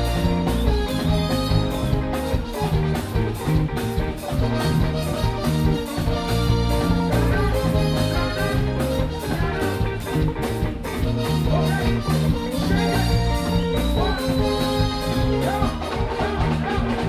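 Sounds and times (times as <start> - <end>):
drum kit steady beat: 0.0 - 17.0
live band playing: 0.0 - 17.0.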